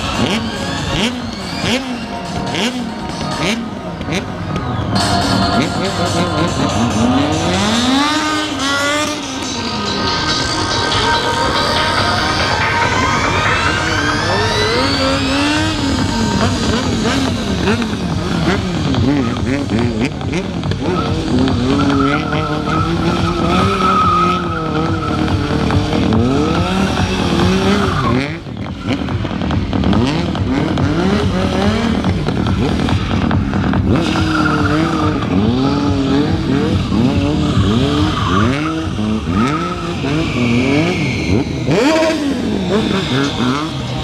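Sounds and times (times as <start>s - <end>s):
tyres squealing on tarmac: 0.0s - 17.2s, 20.8s - 29.6s, 33.9s - 44.0s
motorcycle engine revving: 0.0s - 44.0s.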